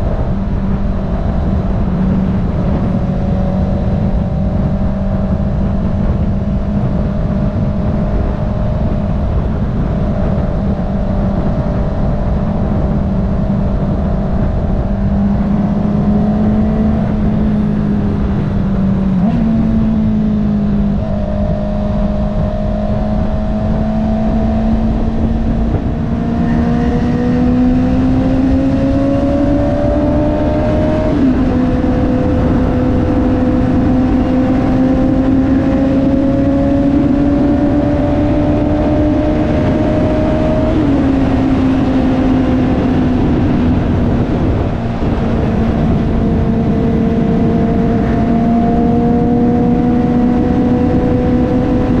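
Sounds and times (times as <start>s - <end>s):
motorcycle engine: 0.0s - 52.0s
wind rushing over microphone: 0.0s - 52.0s.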